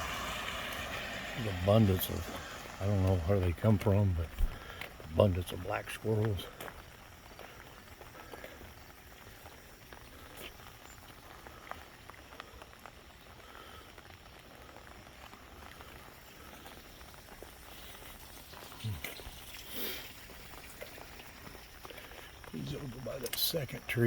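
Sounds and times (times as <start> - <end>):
light rain hiss: 0.0 - 24.0.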